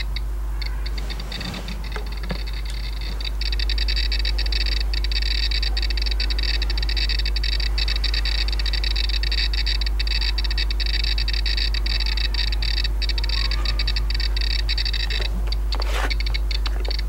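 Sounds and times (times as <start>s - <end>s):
low mains hum: 0.0s - 17.0s
radiation meter clicking rapidly: 0.0s - 17.0s.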